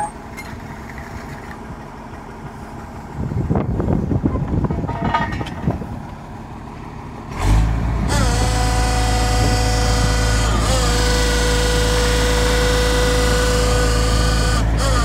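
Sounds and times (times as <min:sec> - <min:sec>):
heavy machinery low drone: 0:00.0 - 0:15.0.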